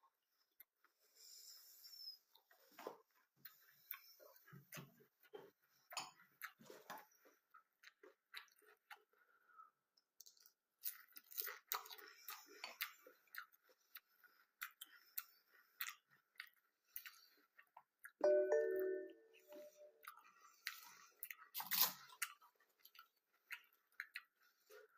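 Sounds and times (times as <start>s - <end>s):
chewing crunchy cereal: 2.4s - 18.2s, 20.0s - 24.9s.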